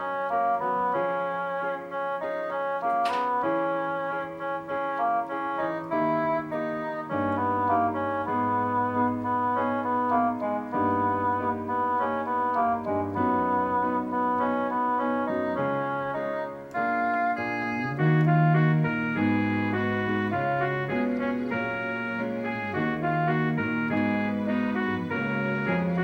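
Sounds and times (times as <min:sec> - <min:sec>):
electronic keyboard organ melody: 0:00.0 - 0:26.0.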